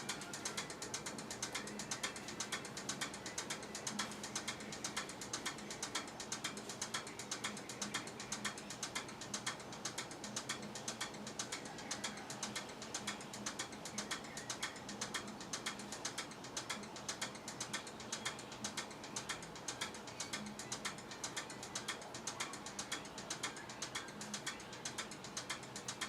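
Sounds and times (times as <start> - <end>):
ratchet clicking: 0.0 - 26.0.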